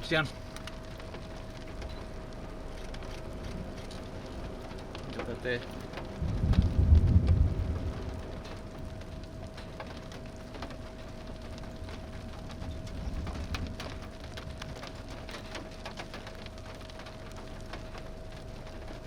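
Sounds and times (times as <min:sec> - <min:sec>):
faint steady hum: 0:00.0 - 0:19.0
low wind rumble: 0:00.0 - 0:19.0
raindrops ticking: 0:00.0 - 0:19.0.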